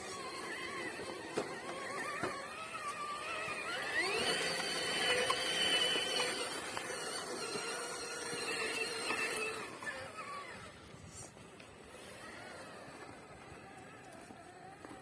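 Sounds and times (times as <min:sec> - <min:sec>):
rc car electric motor whining: 0:00.0 - 0:15.0.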